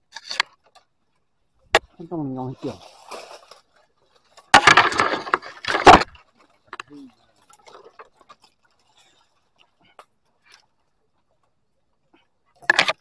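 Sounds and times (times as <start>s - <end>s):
leaves and branches crackling: 0.0s - 13.0s.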